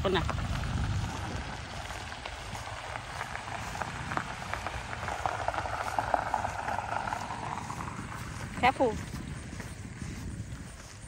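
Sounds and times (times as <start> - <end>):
tyres crackling over gravel: 0.0 - 11.0.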